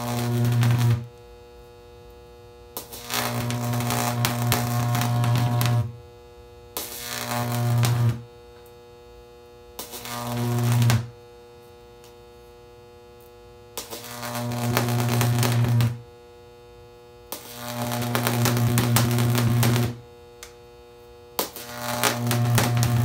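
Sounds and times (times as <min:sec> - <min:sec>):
electric arc buzzing and crackling: 0:00.0 - 0:23.0
steady electrical hum: 0:00.0 - 0:23.0.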